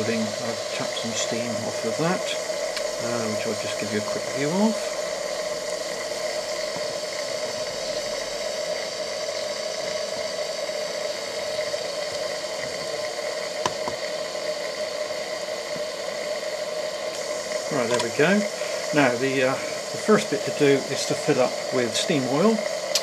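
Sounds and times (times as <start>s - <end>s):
steam locomotive hissing: 0.0s - 23.0s.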